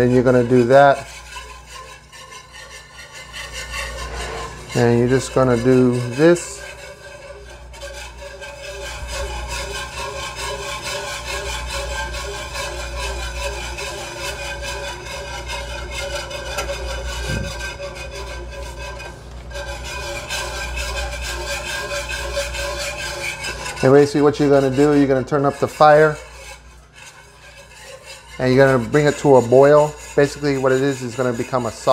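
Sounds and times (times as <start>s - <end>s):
wire whisk scraping a pan: 0.0s - 31.9s.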